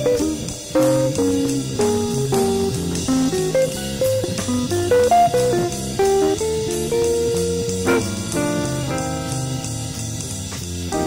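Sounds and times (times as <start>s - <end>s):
bass guitar: 0.0s - 11.0s
drum kit: 0.0s - 11.0s
guitar plucking melody: 0.0s - 11.0s.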